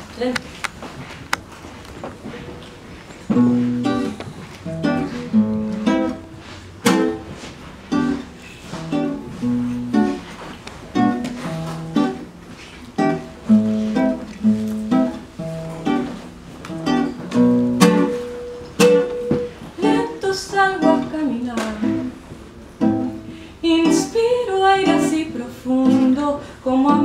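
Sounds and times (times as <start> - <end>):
acoustic guitar strumming: 3.3 - 27.0.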